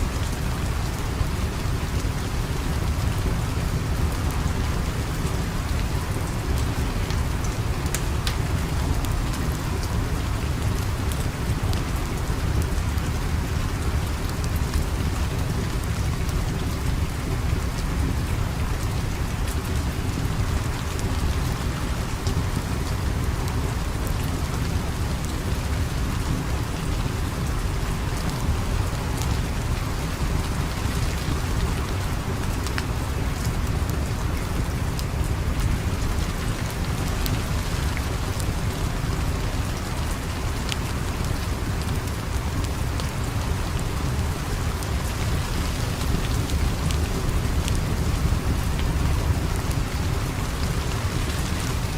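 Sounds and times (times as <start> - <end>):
steady rain: 0.0 - 51.9
wood fire crackling: 0.0 - 51.9.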